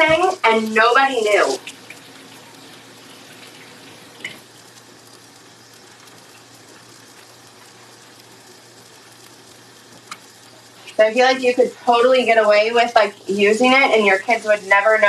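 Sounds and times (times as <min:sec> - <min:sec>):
chicken frying in a pan: 0:00.0 - 0:15.0.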